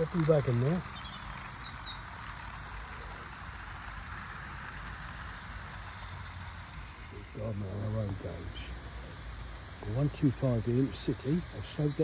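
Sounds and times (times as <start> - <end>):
model train wheels hissing on rails: 0.0 - 12.0.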